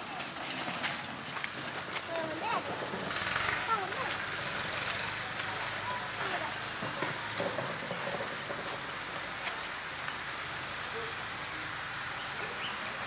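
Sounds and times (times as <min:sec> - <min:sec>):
outdoor background hiss: 0:00.0 - 0:13.0
faint distant voices: 0:01.9 - 0:13.0.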